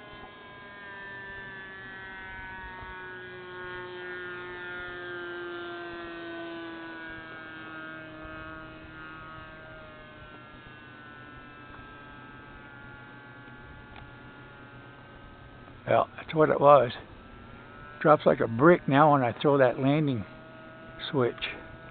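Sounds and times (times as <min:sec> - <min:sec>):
model plane motor whine: 0:00.0 - 0:21.9.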